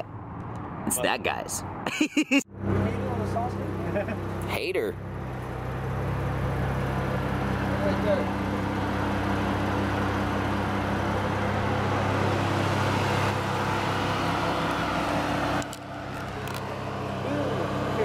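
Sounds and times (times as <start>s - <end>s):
car engine idling: 2.5s - 18.0s.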